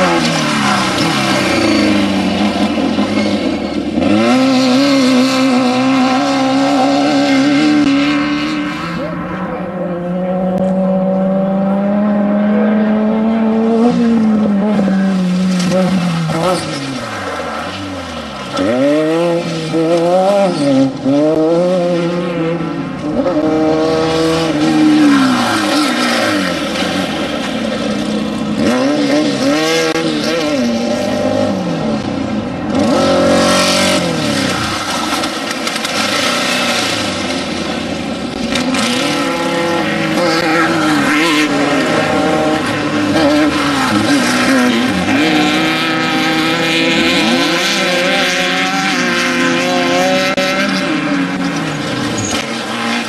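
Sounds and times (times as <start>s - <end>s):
off-road vehicle engines accelerating: 0.0s - 53.0s.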